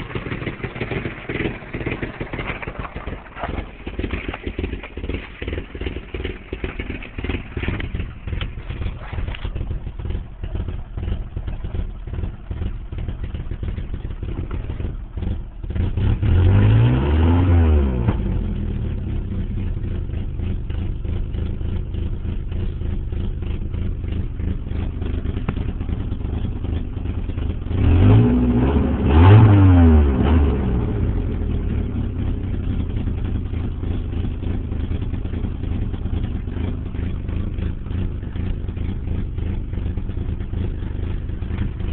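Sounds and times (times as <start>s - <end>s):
car engine idling roughly: 0.0s - 41.9s
engine revving: 0.0s - 41.9s.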